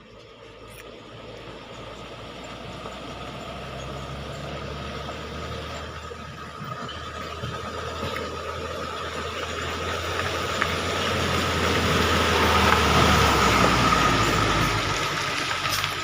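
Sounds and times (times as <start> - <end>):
engine whine: 0.0 - 16.0
truck engine working uphill: 0.0 - 16.0.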